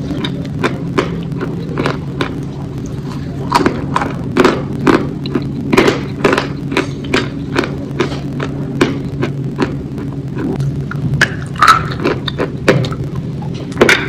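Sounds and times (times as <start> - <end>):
steady low hum: 0.0 - 14.0
wet chewing and lip-smacking: 0.0 - 14.0.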